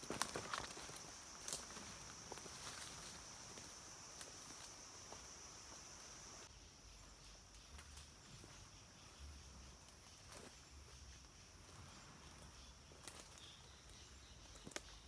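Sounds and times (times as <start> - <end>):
faint ticks and rustles: 0.0 - 15.0
insects droning: 0.0 - 15.0.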